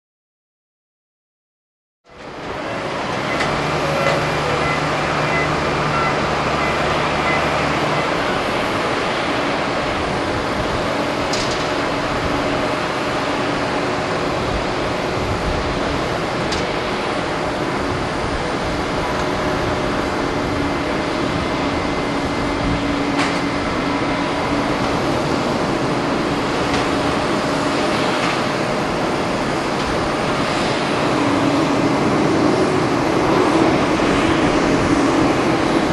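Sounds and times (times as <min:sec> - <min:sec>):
jet engine whine and rumble: 0:02.1 - 0:35.9.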